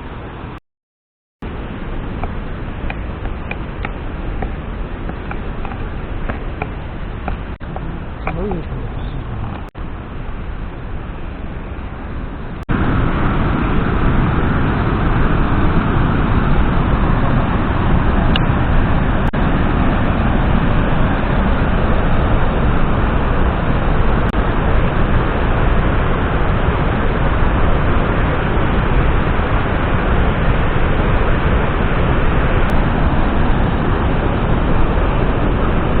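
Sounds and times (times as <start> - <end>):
water rushing: 1.4 - 36.0.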